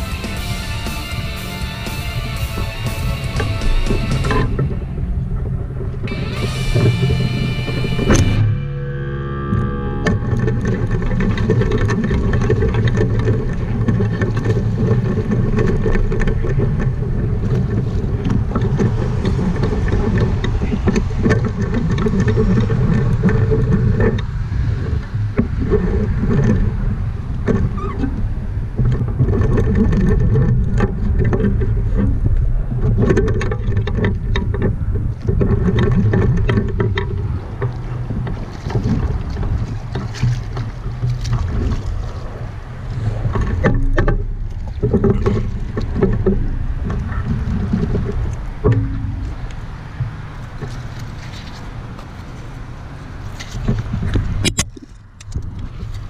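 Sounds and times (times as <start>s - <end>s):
wind buffeting microphone: 0.0s - 8.6s, 10.0s - 56.0s.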